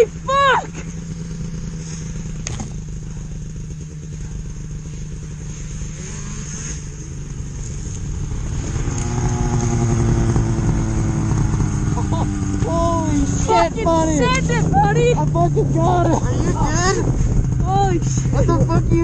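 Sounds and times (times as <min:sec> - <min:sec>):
snowmobile engines humming: 0:00.0 - 0:19.0
snowmobile pulling up: 0:00.0 - 0:19.0.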